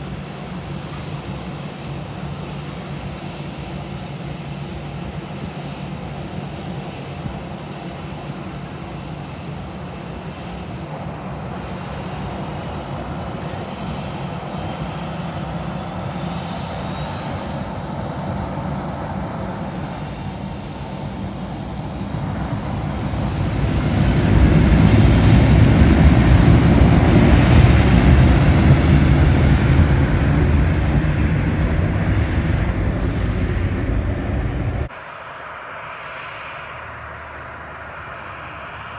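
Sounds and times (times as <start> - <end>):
aircraft engines passing: 0.0 - 38.9.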